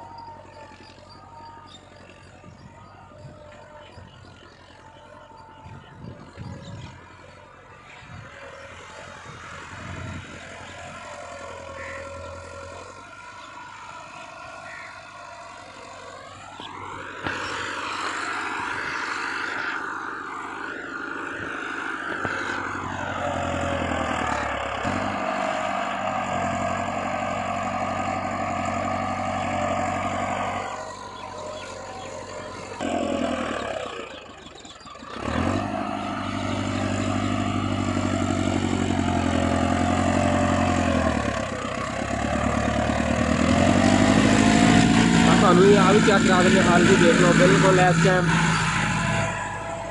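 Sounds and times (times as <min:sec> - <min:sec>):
tractor diesel engine under load: 0:00.0 - 0:49.9.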